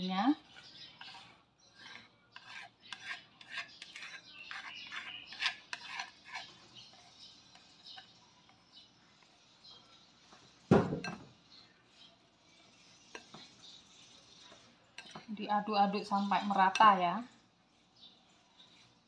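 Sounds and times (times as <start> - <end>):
spoon scraping wooden mortar: 0.0 - 19.0.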